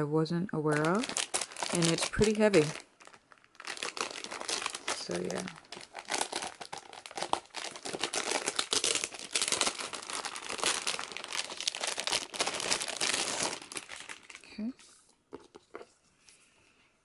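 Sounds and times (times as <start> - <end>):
packaging rustling and crinkling: 0.7 - 16.0.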